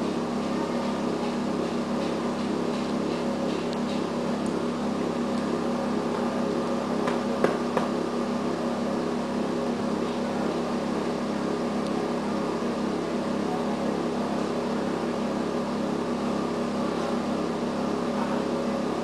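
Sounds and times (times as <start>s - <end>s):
train mechanical hum: 0.0s - 19.0s.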